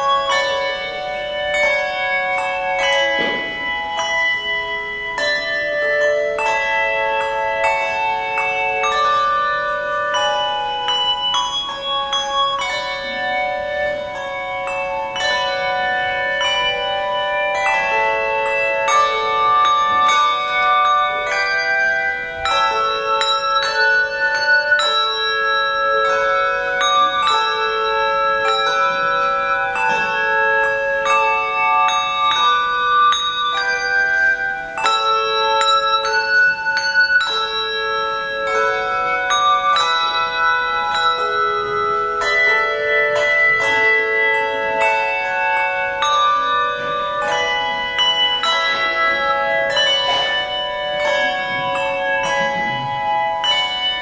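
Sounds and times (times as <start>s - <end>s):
handbell choir ringing hymn: 0.0s - 54.0s.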